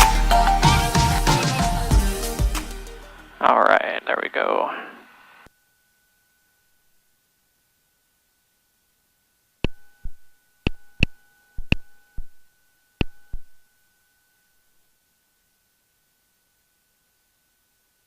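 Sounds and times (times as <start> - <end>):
faint steady electronic tone: 2.9 - 18.0.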